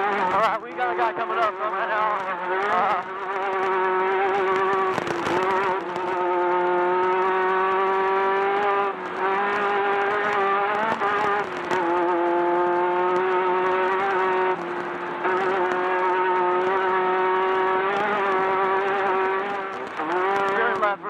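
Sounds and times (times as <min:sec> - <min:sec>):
buggy engine revving hard: 0:00.0 - 0:21.0.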